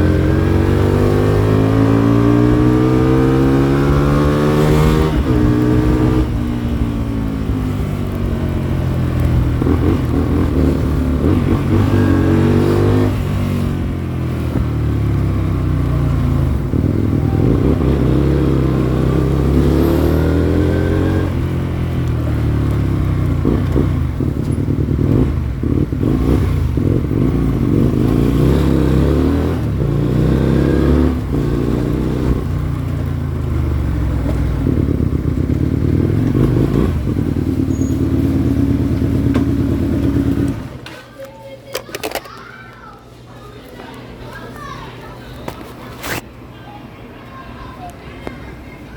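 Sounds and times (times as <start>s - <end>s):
motorcycle engine revving: 0.0s - 40.8s.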